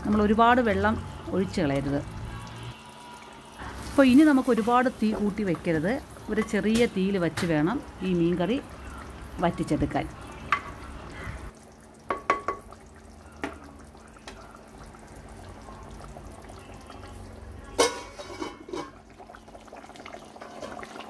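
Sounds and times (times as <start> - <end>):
liquid bubbling in a pot: 0.0 - 21.0.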